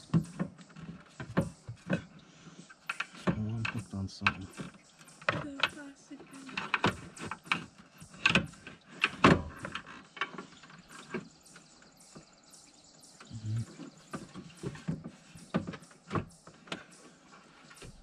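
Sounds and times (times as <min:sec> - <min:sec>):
radiator clunking and scraping: 0:00.0 - 0:18.0.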